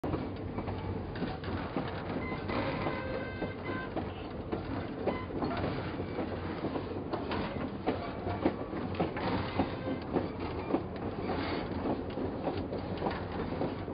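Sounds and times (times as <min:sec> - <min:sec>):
model train wheels clicking: 0:00.1 - 0:13.9.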